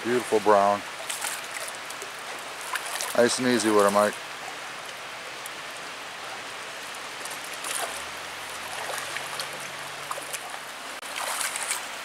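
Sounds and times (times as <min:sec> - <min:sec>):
creek water running over rocks: 0:00.0 - 0:12.0.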